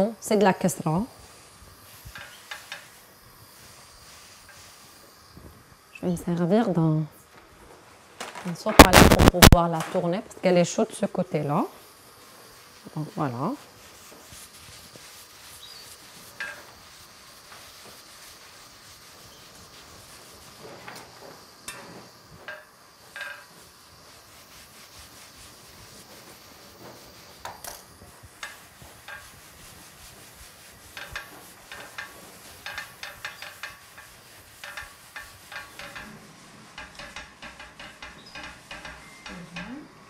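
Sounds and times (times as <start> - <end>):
paper towel rubbing bread on griddle: 0.0 - 5.7, 8.8 - 39.6
faint steady hiss: 0.0 - 40.0.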